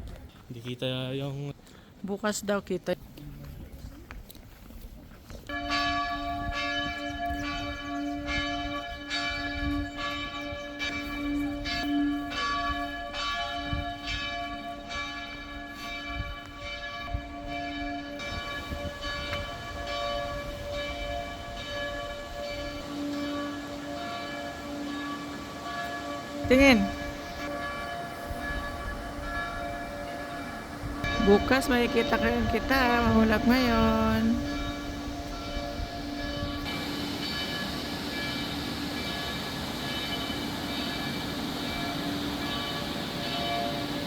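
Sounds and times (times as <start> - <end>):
church bells ringing: 5.4 - 44.0.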